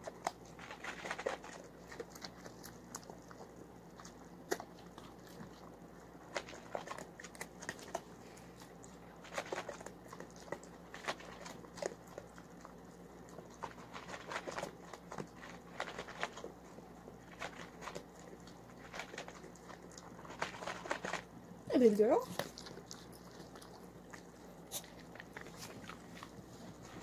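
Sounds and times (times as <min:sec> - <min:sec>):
dog chewing food: 0:00.0 - 0:27.0.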